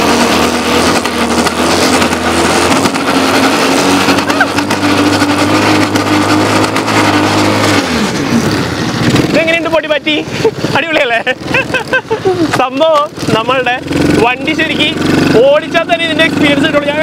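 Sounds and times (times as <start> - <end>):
quad bike engine revving: 0.0 - 17.0.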